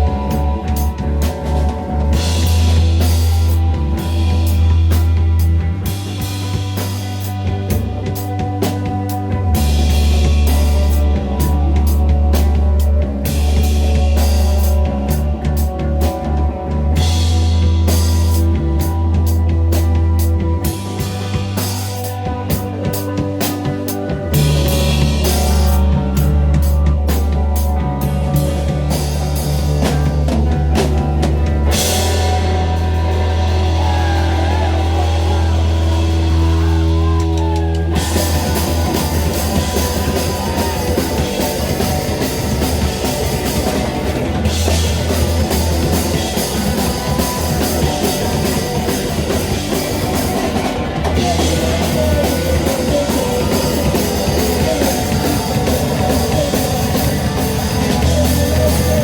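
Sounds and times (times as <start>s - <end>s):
drum kit: 0.0s - 59.0s
rock band playing loudly: 0.0s - 59.0s.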